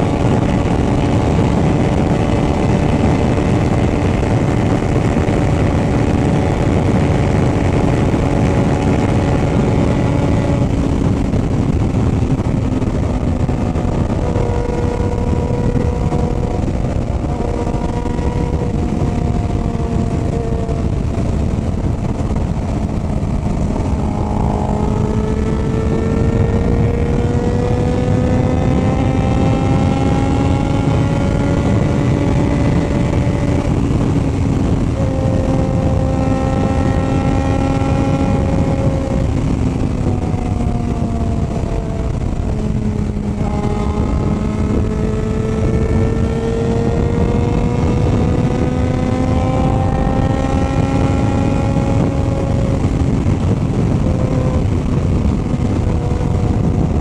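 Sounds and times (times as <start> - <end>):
motorcycle engine accelerating: 0.0 - 57.0
wind on microphone: 0.0 - 57.0.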